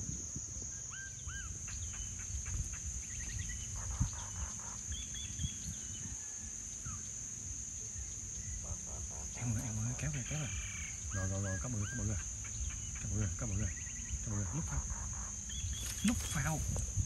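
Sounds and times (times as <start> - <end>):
insects shrilling: 0.0 - 17.0
bird chirps: 0.1 - 17.0.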